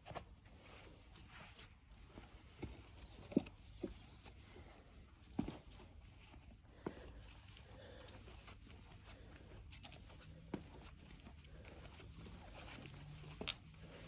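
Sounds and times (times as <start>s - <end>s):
faint footsteps on paved path: 0.0s - 14.0s.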